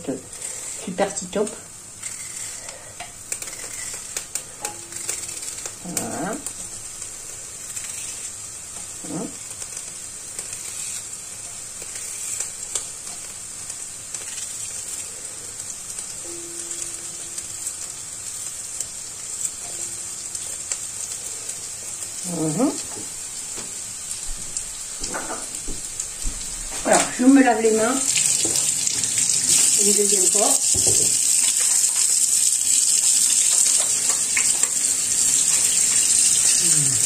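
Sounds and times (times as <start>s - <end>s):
onions sizzling in oil: 0.0s - 37.0s.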